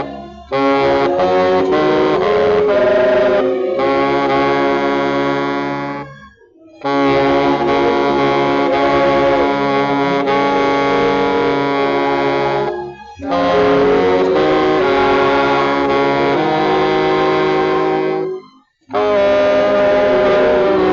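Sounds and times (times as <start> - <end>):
baritone saxophone long notes: 0.0 - 20.9.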